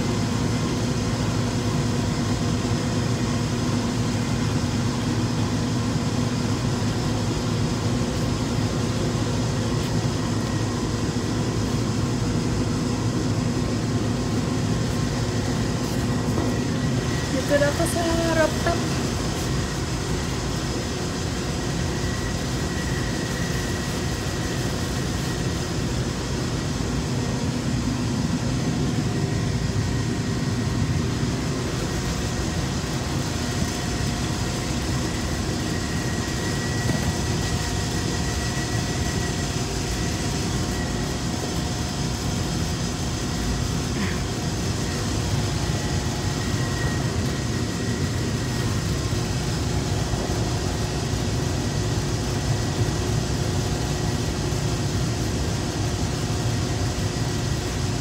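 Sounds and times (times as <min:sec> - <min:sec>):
machinery humming: 0:00.0 - 0:58.0.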